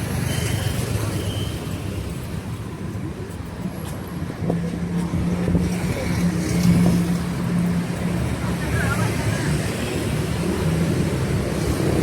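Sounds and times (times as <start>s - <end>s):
road noise rumble: 0.0s - 12.0s.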